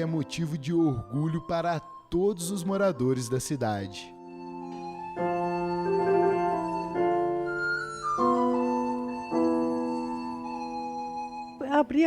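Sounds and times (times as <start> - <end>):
classical instrumental music: 0.0 - 12.0.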